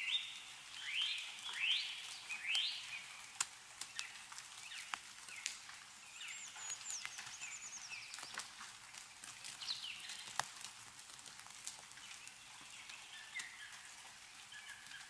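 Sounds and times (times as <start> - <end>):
songbirds chirping and trilling: 0.0 - 10.4, 11.8 - 15.0
meltwater drips falling: 0.0 - 15.0.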